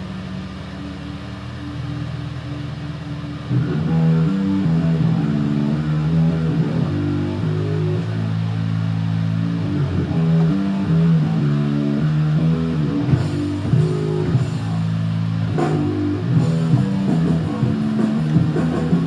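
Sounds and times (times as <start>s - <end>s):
rock music with bass and guitar: 0.9s - 19.0s.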